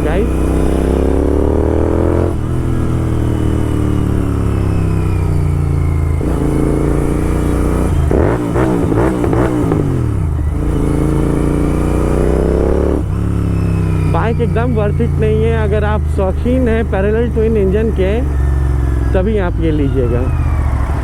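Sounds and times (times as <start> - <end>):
engine throttle blips: 0.0 - 21.0
loud motorcycle engine: 0.0 - 21.0.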